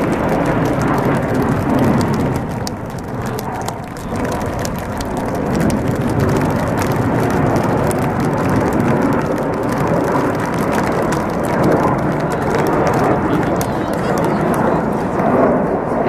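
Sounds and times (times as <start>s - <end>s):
jet roar: 0.0s - 16.0s.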